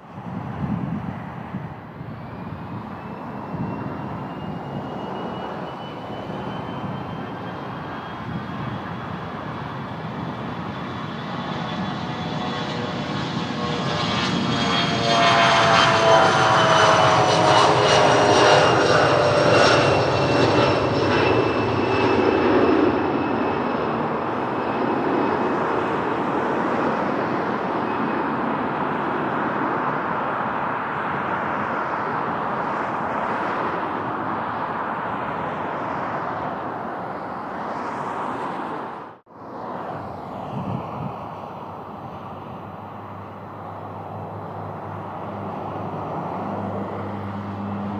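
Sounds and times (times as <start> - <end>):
aircraft engine passing by: 0.0 - 47.9
wind noise on microphone: 0.1 - 30.2, 38.5 - 47.9.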